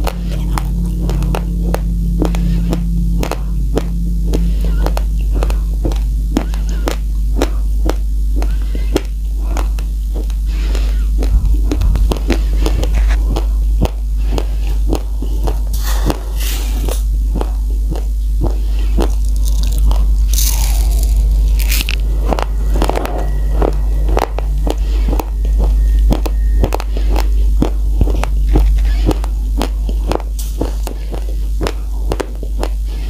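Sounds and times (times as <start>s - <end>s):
rice grains crunched and chewed: 0.0s - 33.0s
steady low hum: 0.0s - 33.0s.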